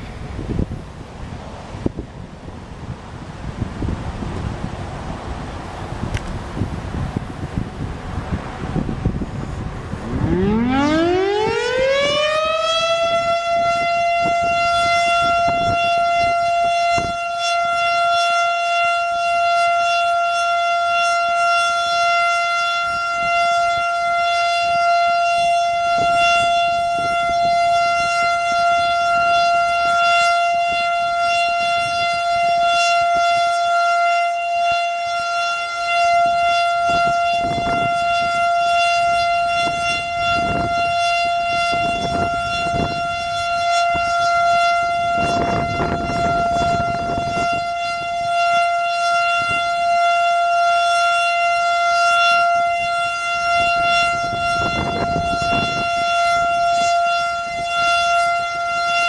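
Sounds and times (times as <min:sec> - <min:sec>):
warning siren winding up: 0:08.8 - 0:59.0.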